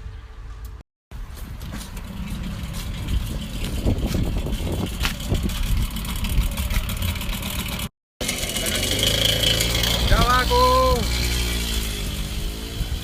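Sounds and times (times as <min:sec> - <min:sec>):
moped engine running: 0:01.2 - 0:13.0.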